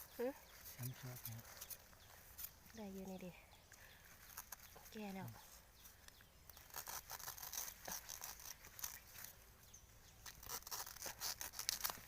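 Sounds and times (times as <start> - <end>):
dry leaf litter crackling: 0.0 - 9.6, 10.2 - 12.0.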